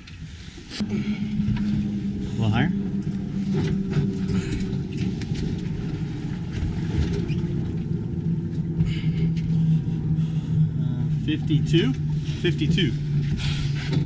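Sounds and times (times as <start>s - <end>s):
outboard motor idling: 0.1s - 14.0s.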